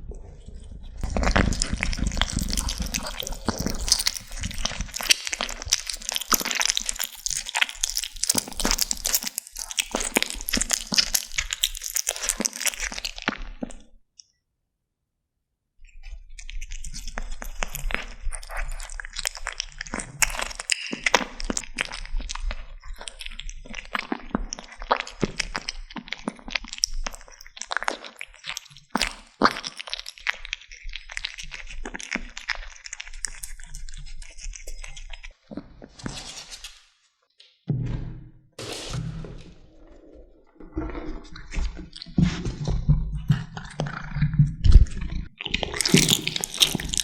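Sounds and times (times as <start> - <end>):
kittens chewing and crunching: 0.1 - 13.9, 16.0 - 36.7, 39.8 - 47.0.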